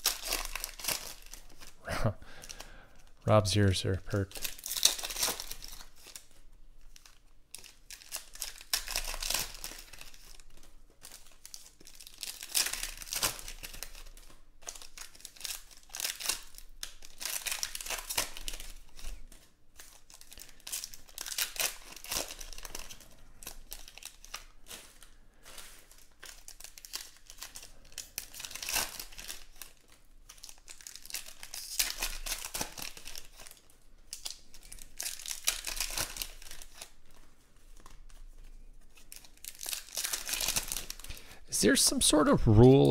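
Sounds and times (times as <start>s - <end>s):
handling of cards: 0.0s - 3.2s, 4.1s - 42.9s
foil wrappers crinkling and tearing: 0.0s - 41.9s.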